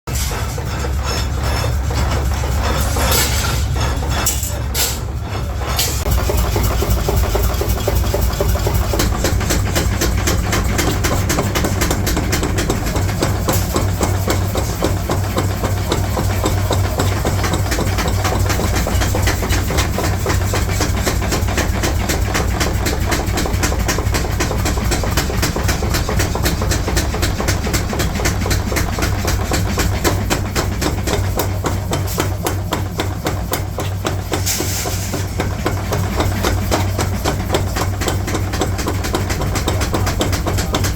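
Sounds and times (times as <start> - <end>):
low machine hum: 0.1 - 34.3.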